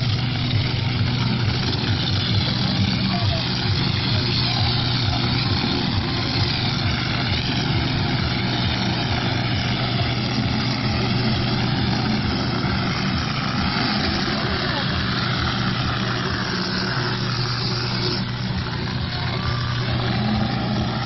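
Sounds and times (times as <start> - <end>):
nozzles spraying water: 0.0 - 21.0
pump engine buzzing: 0.0 - 21.0.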